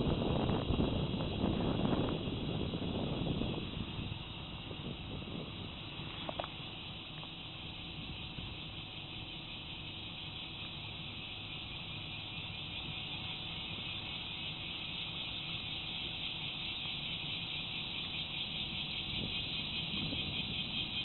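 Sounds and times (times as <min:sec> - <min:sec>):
insect chorus buzzing: 0:00.0 - 0:21.0
low background rumble: 0:00.0 - 0:21.0.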